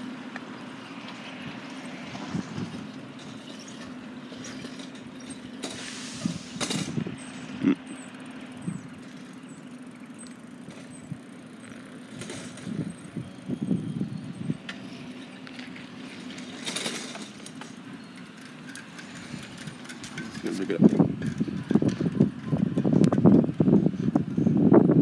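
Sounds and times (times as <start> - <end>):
bicycle tyres rumbling on concrete: 0.0 - 25.0.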